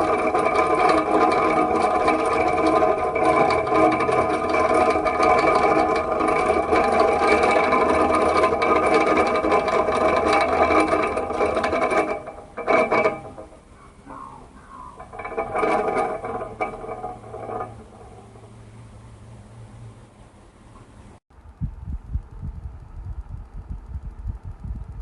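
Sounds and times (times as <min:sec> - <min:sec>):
electric fan rattling: 0:00.0 - 0:25.0
low hum: 0:00.0 - 0:25.0.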